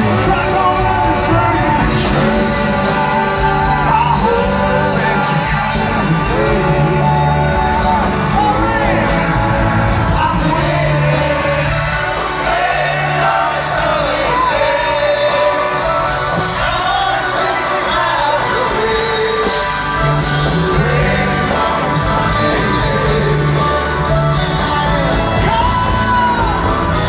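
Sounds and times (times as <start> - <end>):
lead singer singing: 0.0 - 27.0
live rock band playing: 0.0 - 27.0.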